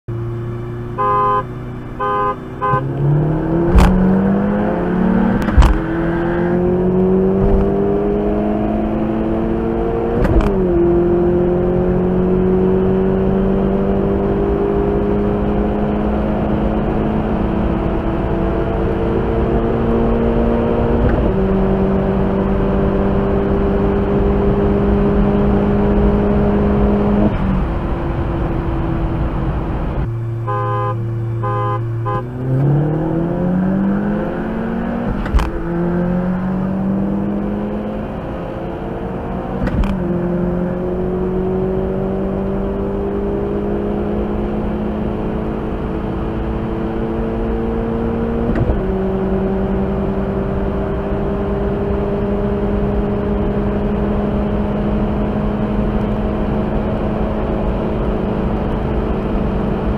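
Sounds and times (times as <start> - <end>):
car engine accelerating: 0.1 - 59.9.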